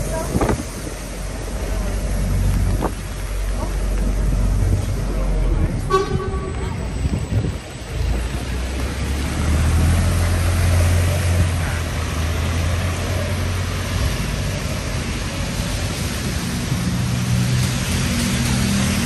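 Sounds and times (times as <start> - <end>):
tyres hissing on wet road: 0.0 - 19.0
vehicle engine hum: 0.0 - 19.0.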